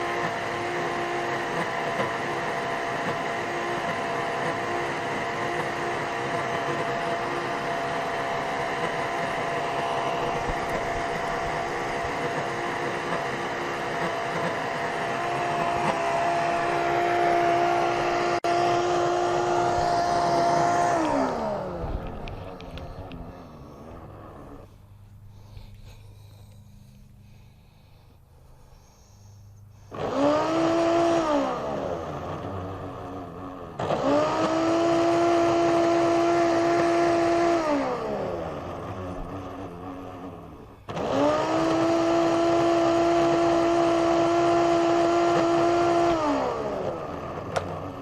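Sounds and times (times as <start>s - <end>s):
shop vacuum motor whining: 0.0s - 48.0s.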